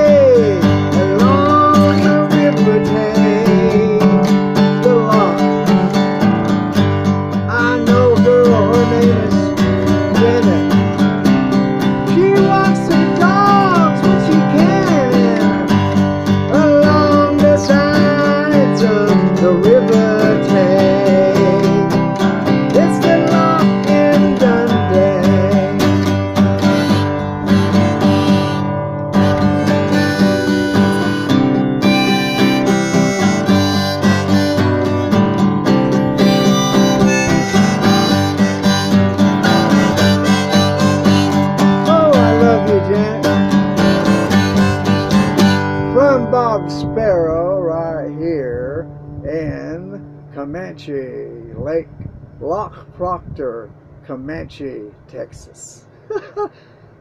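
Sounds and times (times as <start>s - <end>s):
harmonica melody: 0.0s - 46.3s
acoustic guitar strumming: 0.0s - 51.4s.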